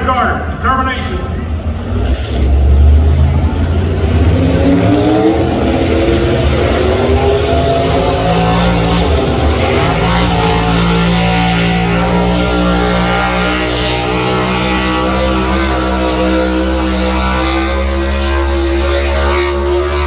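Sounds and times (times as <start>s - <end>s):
truck engine at full throttle: 0.0s - 20.0s.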